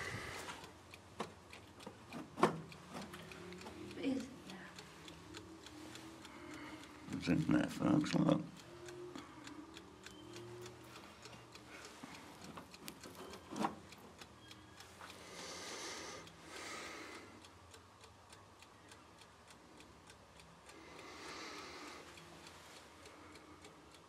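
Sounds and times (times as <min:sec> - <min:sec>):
mechanical timer ticking: 0:00.0 - 0:24.0.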